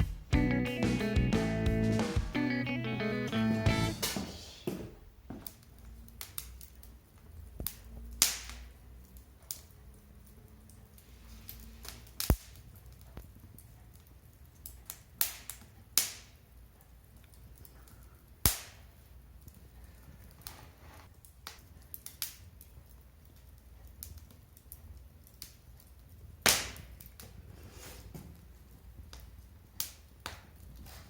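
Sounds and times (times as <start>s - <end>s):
firewood crackling and popping: 3.8s - 31.0s.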